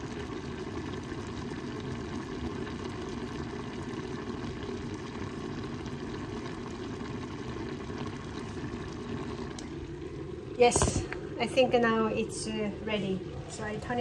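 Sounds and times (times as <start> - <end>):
stew bubbling in a pan: 0.0 - 14.0.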